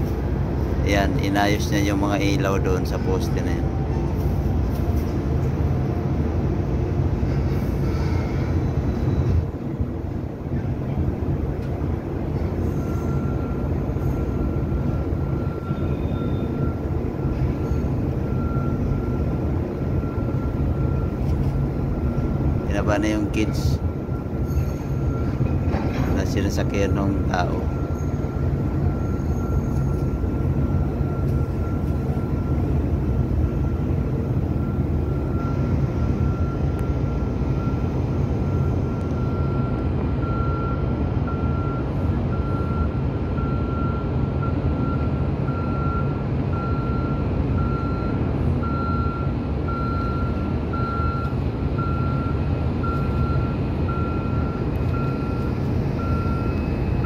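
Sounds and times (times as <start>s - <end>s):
reversing alarm beeping: 0.0s - 5.0s, 7.4s - 57.0s
diesel engine running: 0.0s - 57.0s.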